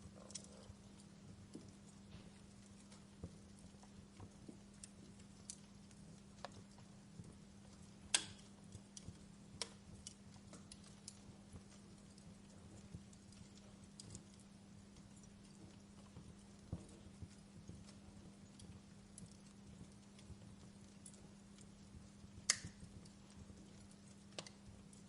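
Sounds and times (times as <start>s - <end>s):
faint low hum: 0.0s - 25.0s
wood fire crackling: 0.0s - 25.0s.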